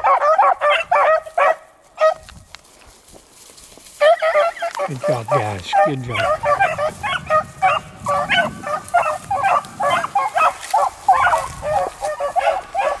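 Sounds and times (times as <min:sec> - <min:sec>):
dogs baying: 0:00.0 - 0:02.2, 0:04.0 - 0:13.0.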